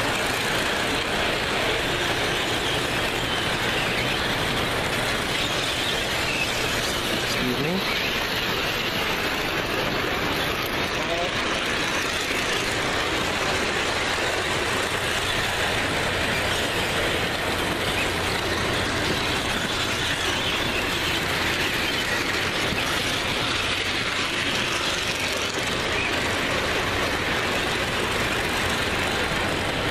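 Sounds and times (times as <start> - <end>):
model trains running on track: 0.0 - 29.9.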